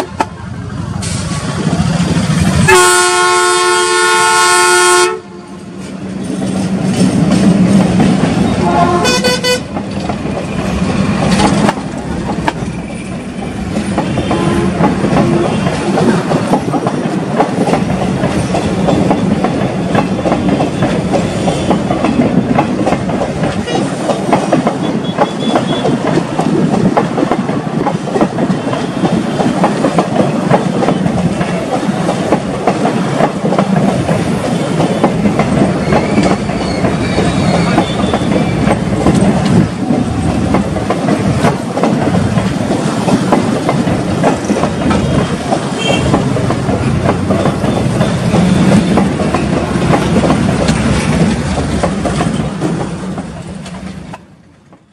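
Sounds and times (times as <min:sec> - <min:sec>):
train wheels clattering on track: 0:00.0 - 0:54.9.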